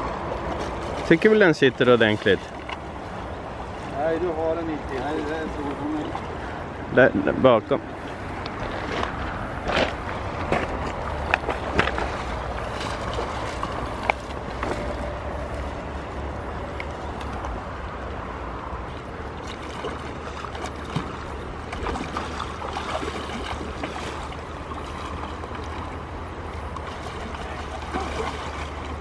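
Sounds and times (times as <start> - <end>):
river running over stones: 0.1 - 29.0.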